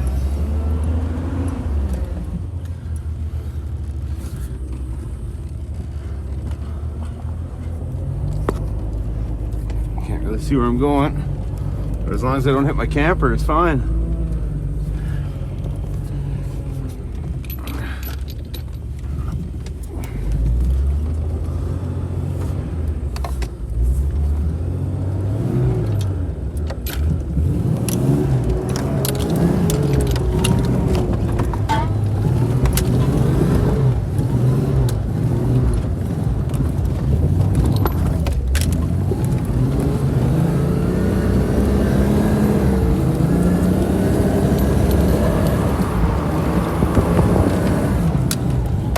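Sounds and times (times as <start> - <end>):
vehicle engine revving: 0.0 - 18.0, 20.0 - 48.9.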